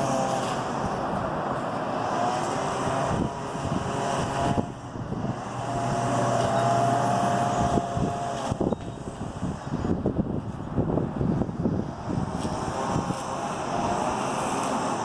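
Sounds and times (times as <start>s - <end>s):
constant rushing noise: 0.0s - 15.0s
vehicle engine hum: 0.0s - 15.0s.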